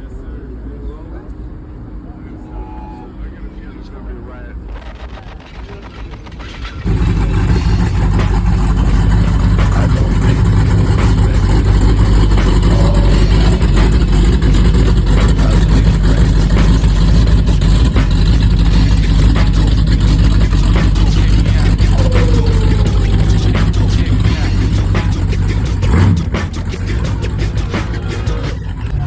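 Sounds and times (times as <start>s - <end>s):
car engine exhaust drone: 0.0s - 29.0s.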